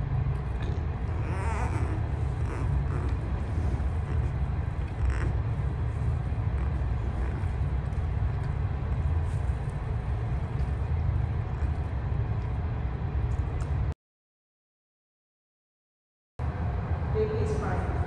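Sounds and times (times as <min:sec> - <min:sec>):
steady low rumble: 0:00.0 - 0:13.9, 0:16.4 - 0:18.0.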